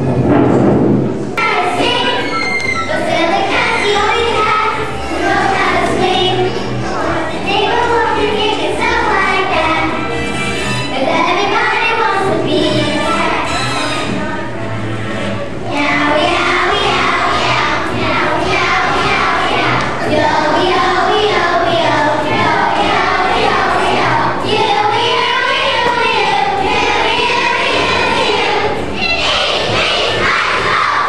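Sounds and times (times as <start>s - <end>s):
instrumental accompaniment: 0.0s - 31.0s
children singing in unison: 1.4s - 10.2s, 10.9s - 14.4s, 15.6s - 31.0s.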